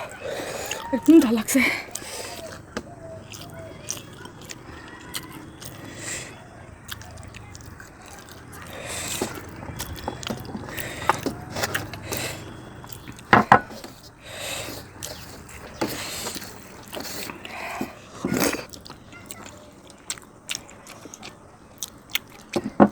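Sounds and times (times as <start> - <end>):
chewing with wet smacks: 0.0 - 22.9.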